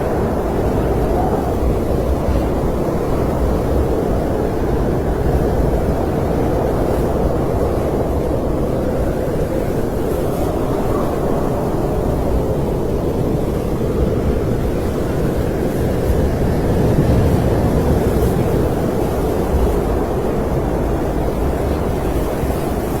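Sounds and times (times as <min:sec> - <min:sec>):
snowstorm wind blowing: 0:00.0 - 0:23.0.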